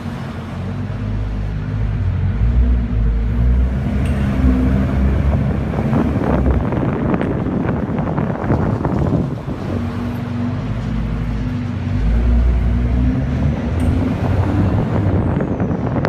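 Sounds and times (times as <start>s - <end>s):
car engine running: 0.0s - 16.0s
road and wind noise: 0.0s - 16.0s
steady low drone: 0.0s - 16.0s.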